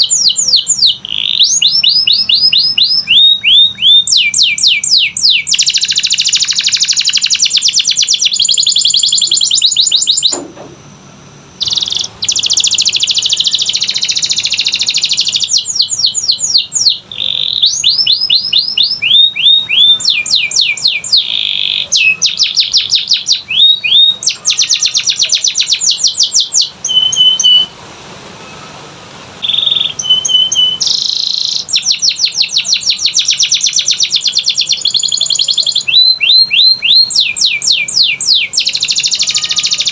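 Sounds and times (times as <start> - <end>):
canary singing trills: 0.0 - 10.5, 11.6 - 27.8, 29.4 - 39.9.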